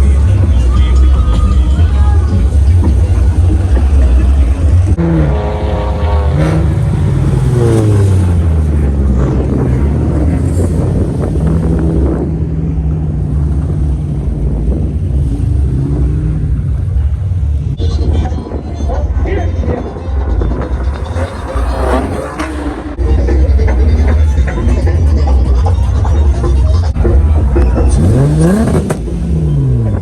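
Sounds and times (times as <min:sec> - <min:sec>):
car engine revving: 0:00.0 - 0:30.0
heavy low rumble: 0:00.0 - 0:30.0.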